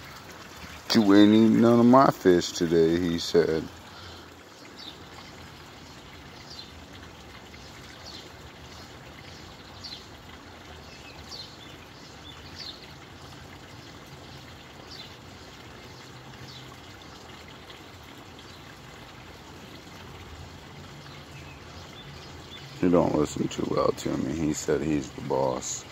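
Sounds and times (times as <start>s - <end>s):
water pouring into pond: 0.0s - 25.9s.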